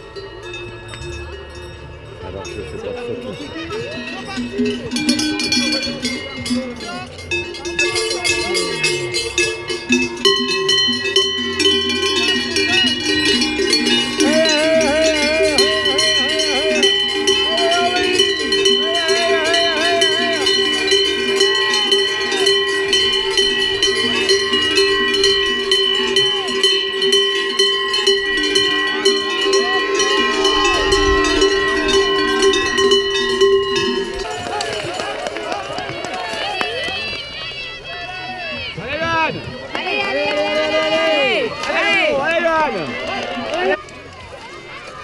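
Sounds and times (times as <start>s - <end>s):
cowbells ringing: 0.0s - 39.2s.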